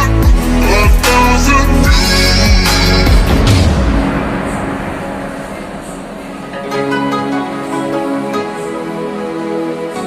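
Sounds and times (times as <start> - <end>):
soft pop instrumental music: 0.0 - 10.0
sustained synth notes: 1.5 - 9.8.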